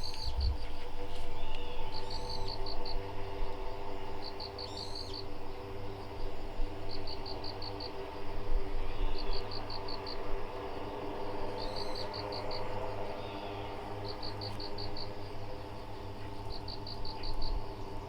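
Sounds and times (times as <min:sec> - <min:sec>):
ambient drone music: 0:00.0 - 0:18.0
cricket-like chirps: 0:00.0 - 0:18.0.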